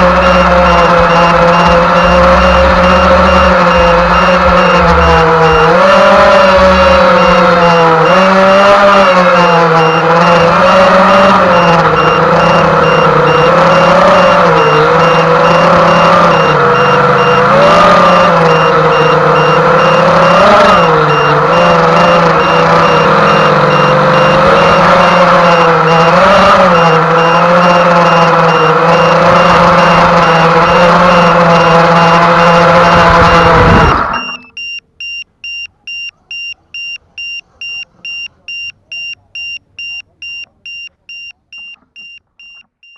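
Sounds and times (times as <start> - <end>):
model boat motor running: 0.0 - 34.4.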